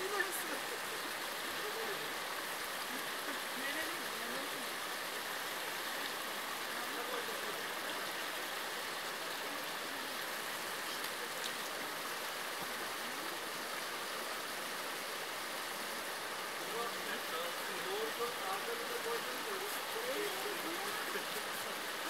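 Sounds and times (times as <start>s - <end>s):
stream flowing over rocks: 0.0s - 22.0s.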